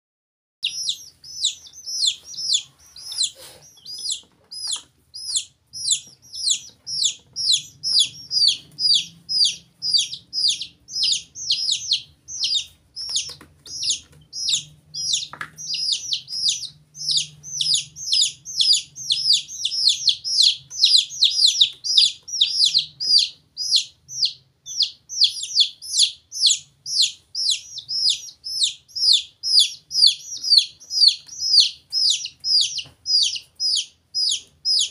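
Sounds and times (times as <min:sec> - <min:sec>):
chicks and duckling peeping: 0:00.6 - 0:34.9.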